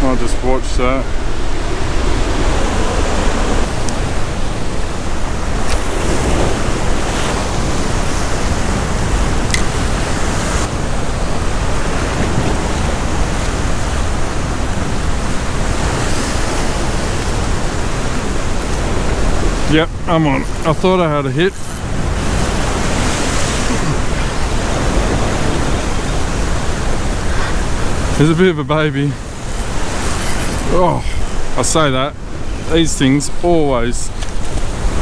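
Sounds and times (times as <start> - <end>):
surf breaking against rocks: 1.8 - 31.9.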